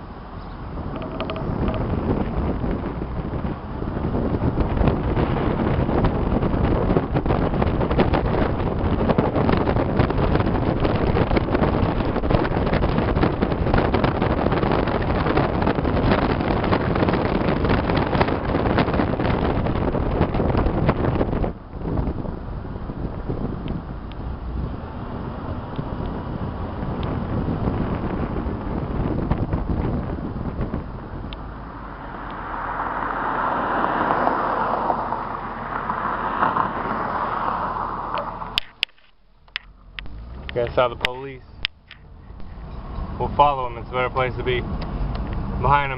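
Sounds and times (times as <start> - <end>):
car engine driving: 0.0 - 45.9
road noise: 0.0 - 45.9
wind buffeting microphone: 0.0 - 45.9.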